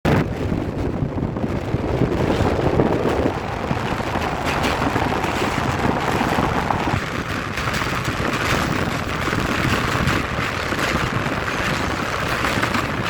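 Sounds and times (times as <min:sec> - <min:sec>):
train wheels rumbling on rails: 0:00.0 - 0:13.0
rattling clatter: 0:00.2 - 0:13.0.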